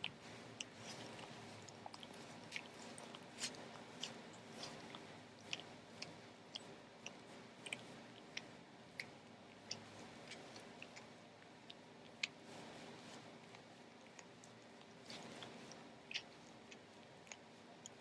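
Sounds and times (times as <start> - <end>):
dog licking paw: 0.0 - 17.9.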